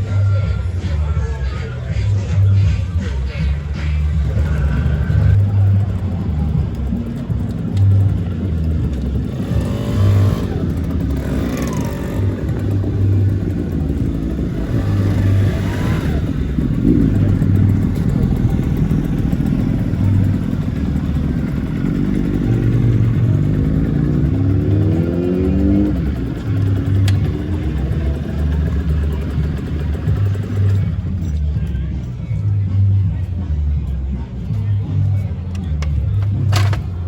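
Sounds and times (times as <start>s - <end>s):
scooter engines revving: 0.0s - 31.9s, 32.6s - 37.0s.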